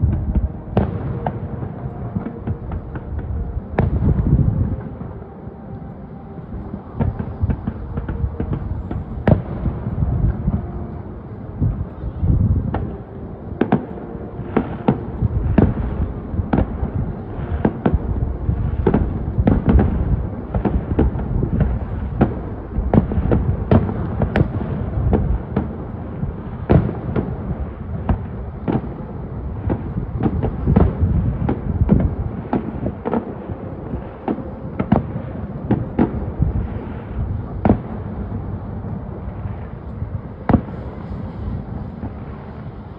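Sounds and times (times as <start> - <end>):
fireworks bangs and booms: 0.0 - 42.9
low rumble: 0.0 - 42.9.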